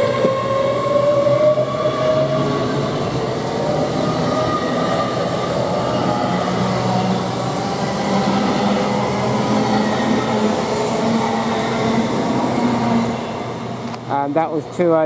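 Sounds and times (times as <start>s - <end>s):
electric train motors whining: 0.0s - 14.4s.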